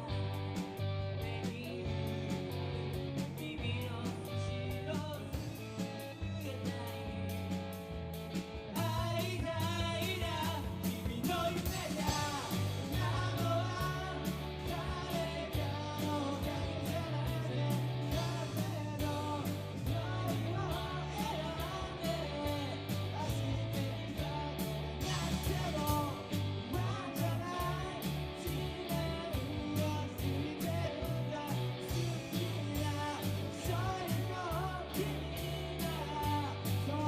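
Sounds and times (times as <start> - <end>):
drums beating: 0.0 - 37.0
live rock band playing: 0.0 - 37.0
person singing: 1.1 - 7.7, 8.7 - 37.0.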